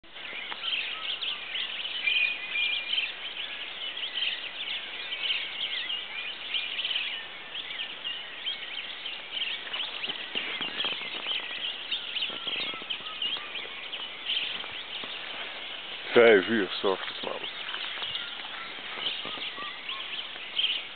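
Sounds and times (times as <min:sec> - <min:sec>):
birds chirping and calling: 0:00.0 - 0:20.9.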